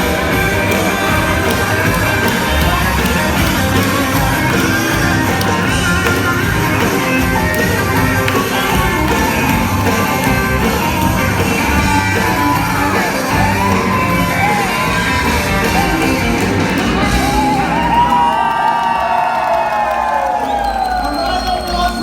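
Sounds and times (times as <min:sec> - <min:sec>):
loud music with singing: 0:00.0 - 0:19.0
crowd shouting and whooping: 0:00.0 - 0:22.0.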